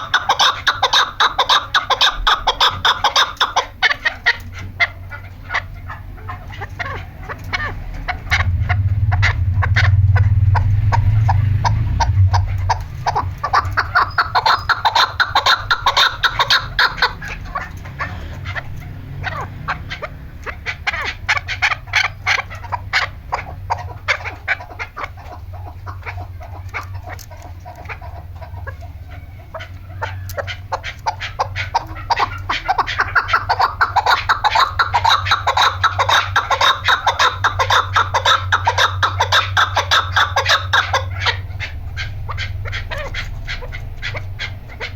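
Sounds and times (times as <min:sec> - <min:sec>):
partridges clucking: 0:00.0 - 0:44.9
steady low hum: 0:00.0 - 0:44.9.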